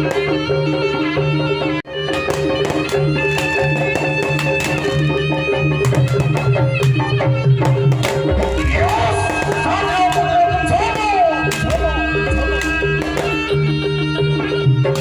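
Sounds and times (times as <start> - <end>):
drum pattern: 2.1 - 15.0
sliding wavering melody: 2.2 - 15.0.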